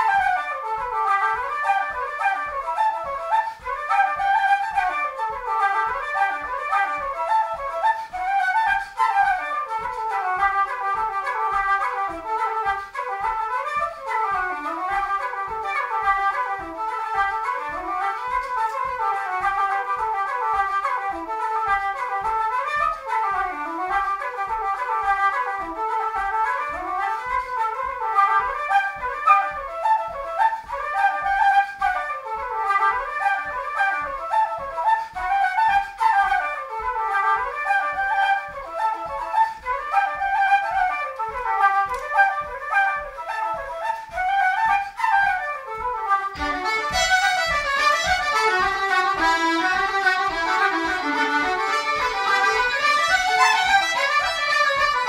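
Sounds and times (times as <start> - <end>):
two flutes playing a dance tune: 0.0 - 55.0.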